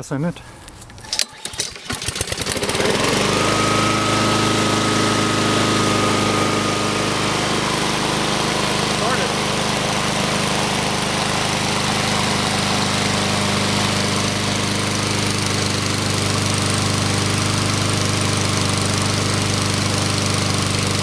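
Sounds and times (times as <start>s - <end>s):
lawn mower engine running: 0.7s - 21.0s.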